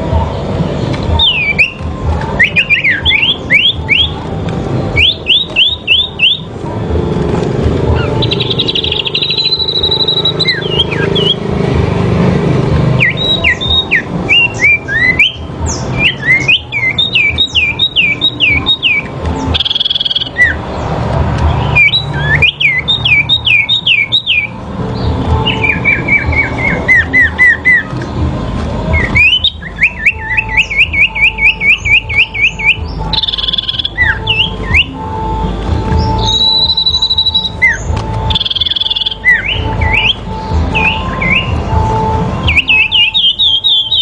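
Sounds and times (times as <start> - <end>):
songbirds singing whistled notes: 0.0 - 44.0.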